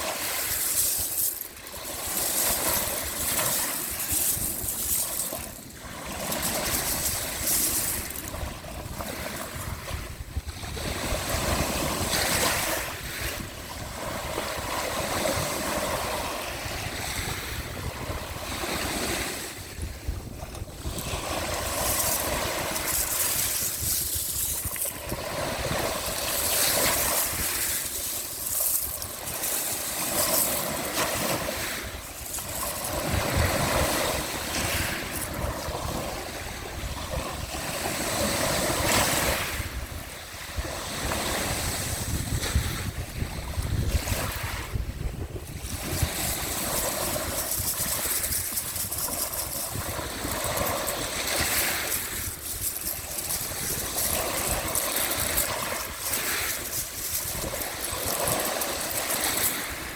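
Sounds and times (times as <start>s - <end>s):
sea waves washing in: 0.0s - 59.9s
wind rumbling on microphone: 0.0s - 59.9s.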